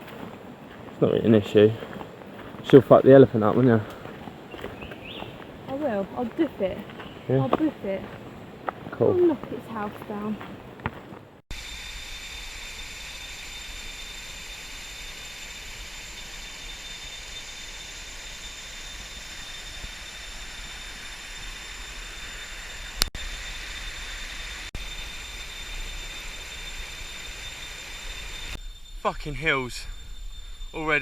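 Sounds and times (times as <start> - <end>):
high-pitched whines: 0.0 - 31.0
insect drone: 0.0 - 31.0.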